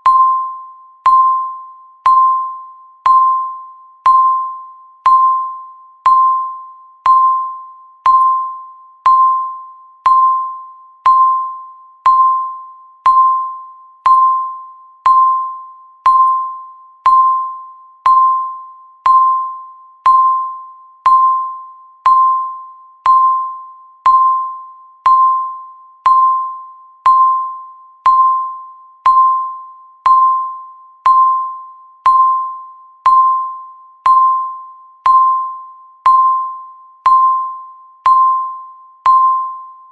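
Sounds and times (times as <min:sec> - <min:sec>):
timer ticking pings: 0:00.0 - 0:39.9.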